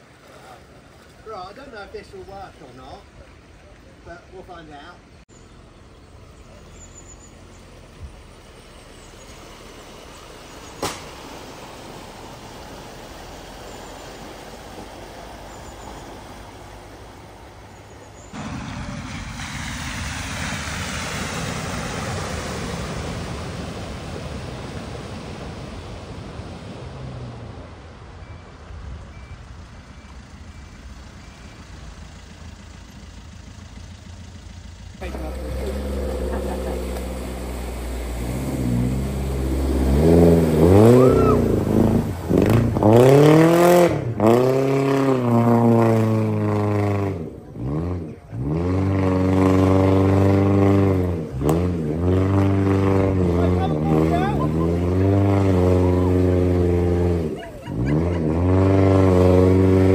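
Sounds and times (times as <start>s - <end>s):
water splashing: 0.0s - 4.6s, 5.6s - 29.0s, 35.0s - 59.9s
vehicle engine and road noise: 0.0s - 59.9s.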